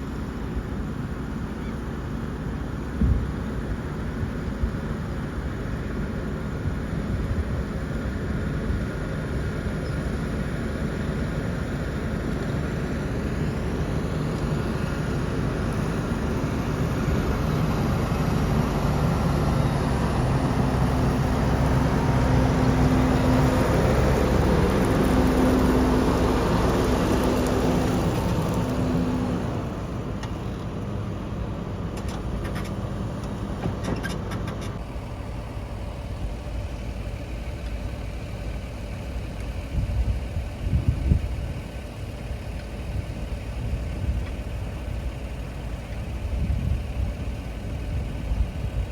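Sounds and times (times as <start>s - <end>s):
tractor diesel engine drone: 0.0s - 48.9s.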